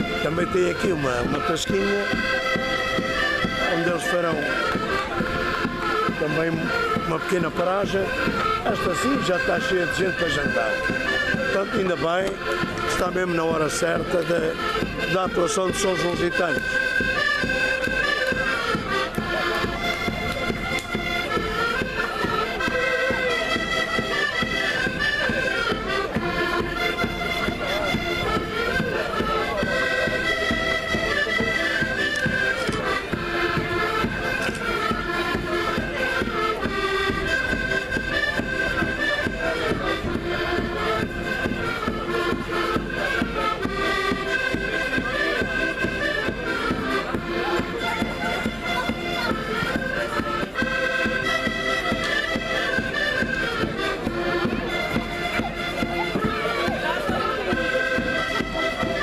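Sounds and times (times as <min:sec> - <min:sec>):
reedy wind melody: 0:00.0 - 0:59.0
steady drumbeats: 0:00.0 - 0:59.0.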